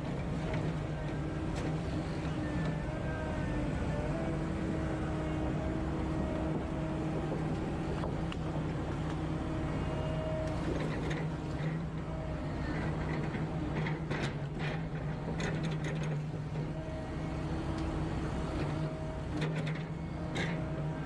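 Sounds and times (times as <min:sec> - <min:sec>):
heavy machine engine running: 0:00.0 - 0:21.0.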